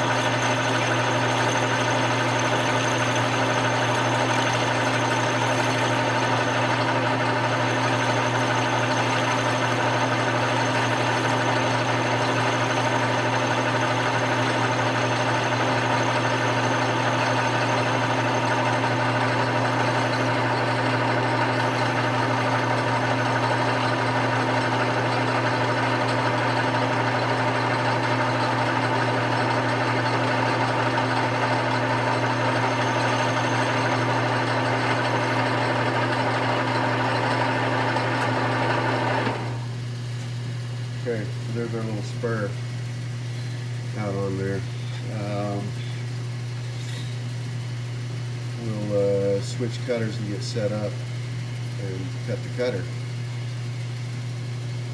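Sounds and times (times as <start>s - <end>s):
metal lathe motor hum: 0.0s - 54.9s.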